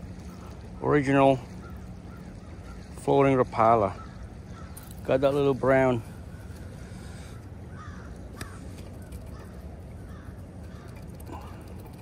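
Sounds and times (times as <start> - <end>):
flowing creek water: 0.0 - 12.0
faint bird calls: 0.2 - 12.0.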